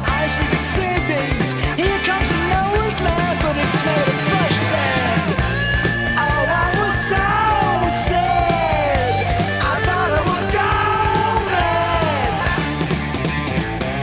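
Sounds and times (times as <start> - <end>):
bass guitar: 0.0 - 14.0
drums: 0.0 - 14.0.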